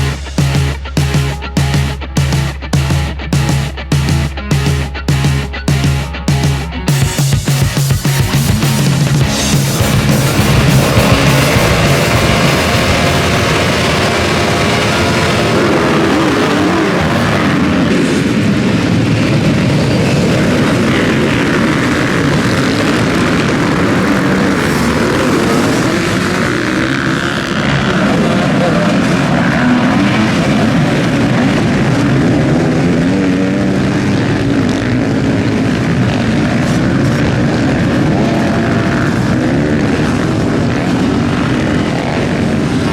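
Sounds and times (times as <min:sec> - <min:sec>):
motocross motorcycle engines revving: 0:00.0 - 0:42.9.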